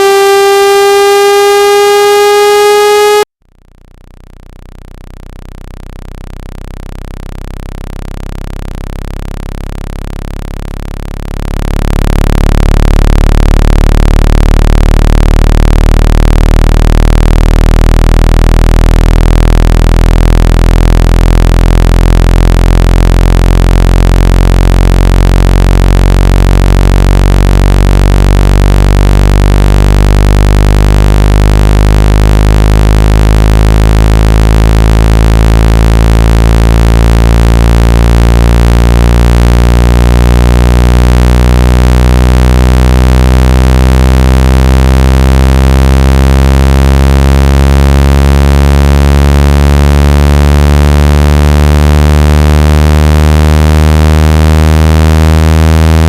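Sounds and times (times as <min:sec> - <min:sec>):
low synthetic buzzing tone: 0:00.0 - 0:56.0.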